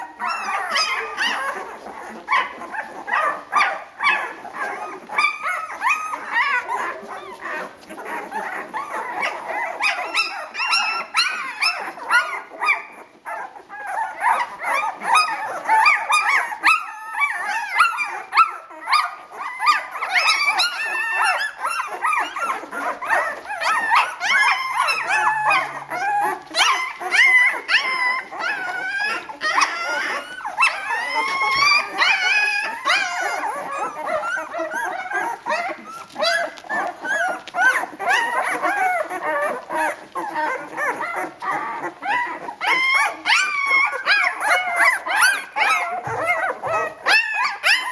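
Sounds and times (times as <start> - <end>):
puppies squeaking and whimpering: 0.0 - 47.9.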